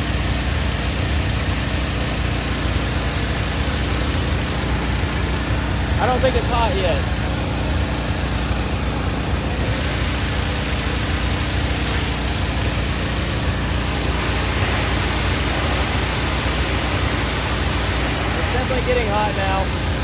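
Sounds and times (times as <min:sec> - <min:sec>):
pressure washer engine and pump drone: 0:00.0 - 0:20.0
water spray hissing: 0:00.1 - 0:20.0.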